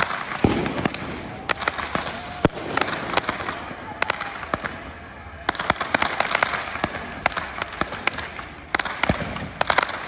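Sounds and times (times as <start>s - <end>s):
fireworks cracking and popping: 0.0s - 10.0s.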